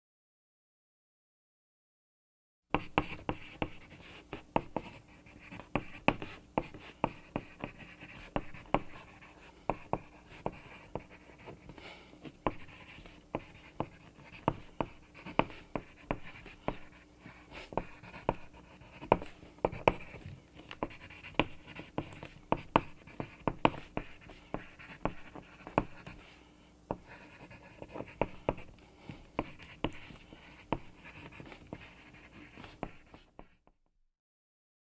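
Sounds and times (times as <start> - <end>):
pencil tapping on paper: 2.7 - 26.2, 26.9 - 33.8
pencil scratching on paper: 2.8 - 33.6.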